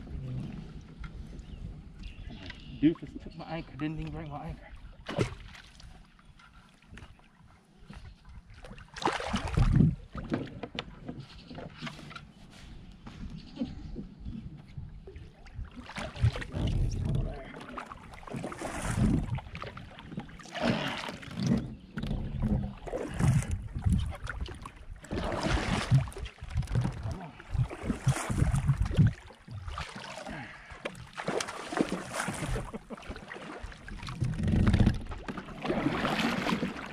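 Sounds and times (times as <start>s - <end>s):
paddle strokes splashing water: 4.0s - 36.9s.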